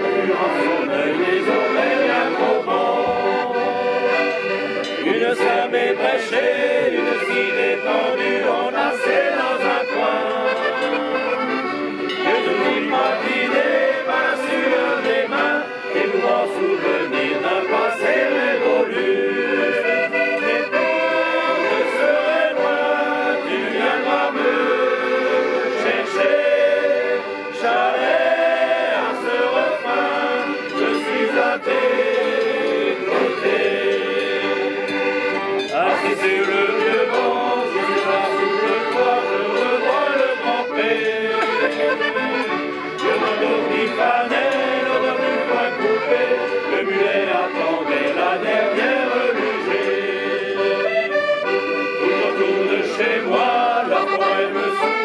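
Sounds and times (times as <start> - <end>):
accordions playing: 0.0 - 55.0
group of voices singing: 0.0 - 55.0.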